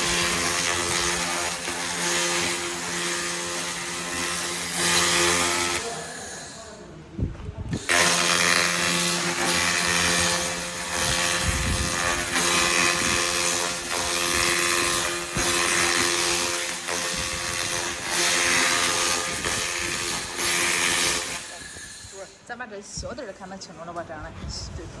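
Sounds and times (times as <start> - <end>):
laser welding hissing and crackling: 0.0 - 6.8, 7.8 - 22.5.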